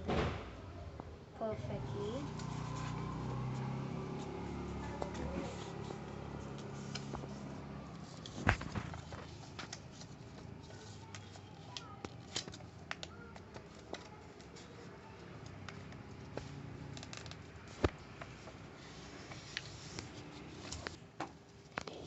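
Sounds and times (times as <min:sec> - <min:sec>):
paper being folded: 0:02.2 - 0:22.0.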